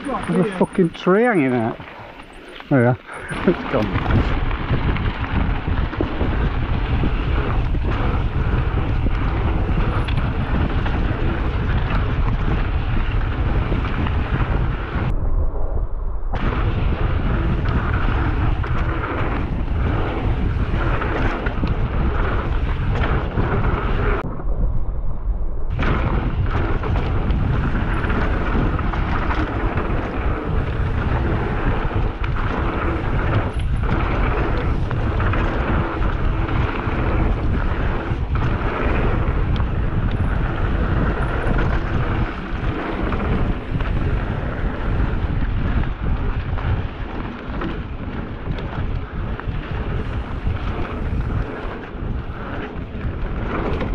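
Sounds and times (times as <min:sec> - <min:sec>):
bike knocking and rattling: 0:00.0 - 0:15.1, 0:16.5 - 0:24.2, 0:25.7 - 0:53.9
wind rushing over microphone: 0:00.0 - 0:53.9.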